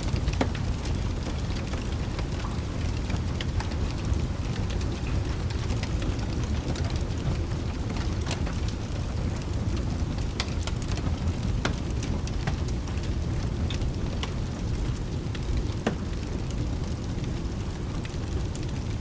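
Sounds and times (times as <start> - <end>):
continuous low rumble: 0.0 - 19.0
steady rain: 0.0 - 19.0
wood fire popping and crackling: 0.0 - 19.0.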